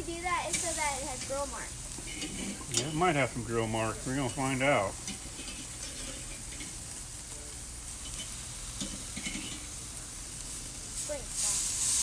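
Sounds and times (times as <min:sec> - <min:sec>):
steaks sizzling on a grill: 0:00.0 - 0:12.0.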